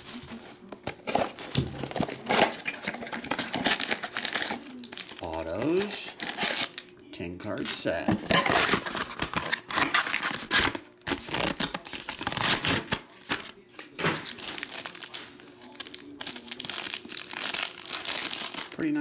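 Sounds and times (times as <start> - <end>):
plastic wrappers crinkling: 0.0 - 7.0, 7.6 - 19.0.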